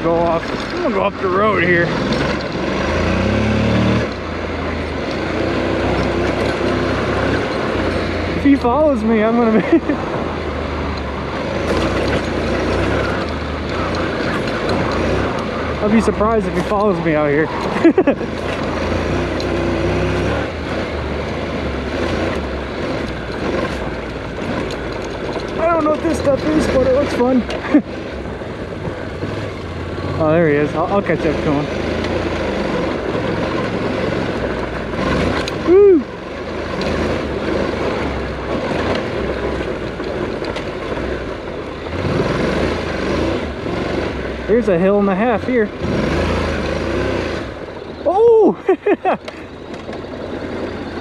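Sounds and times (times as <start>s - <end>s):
motorcycle engine running: 0.0s - 51.0s
wind and road noise: 0.0s - 51.0s.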